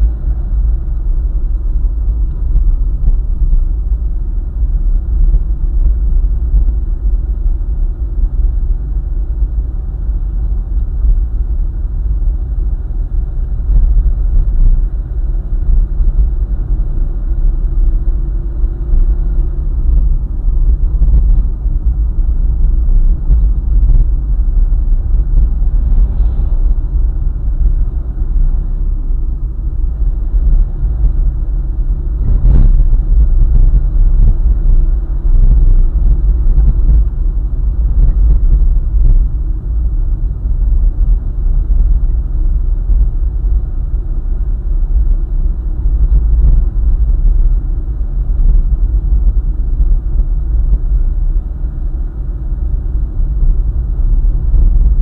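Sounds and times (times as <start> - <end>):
car engine and road rumble: 0.0 - 55.0
steady hum: 0.0 - 55.0.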